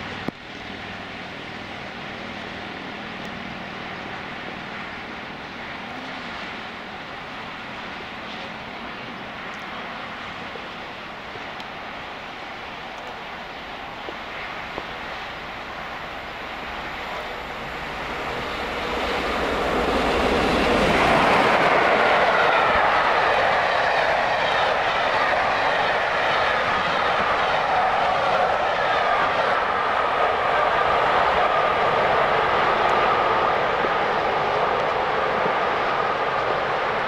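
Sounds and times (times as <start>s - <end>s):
steam locomotive passing: 0.0s - 37.0s
train wheels rushing on rail: 0.0s - 37.0s.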